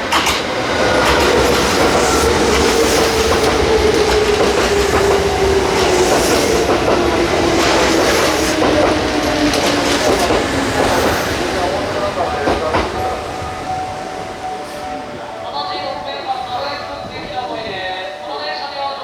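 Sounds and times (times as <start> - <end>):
wheels clattering over rail joints: 0.0 - 19.0.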